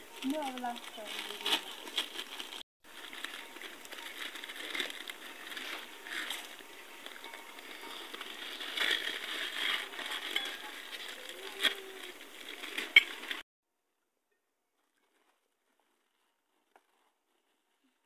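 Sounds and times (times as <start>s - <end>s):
crinkling and rustling by hands: 0.0s - 13.5s, 14.7s - 18.0s.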